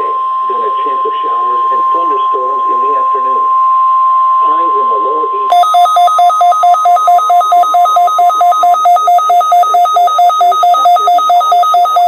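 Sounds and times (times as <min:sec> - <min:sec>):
steady alarm test tone: 0:00.0 - 0:12.0
two-pitch trilling alert siren: 0:00.0 - 0:12.0.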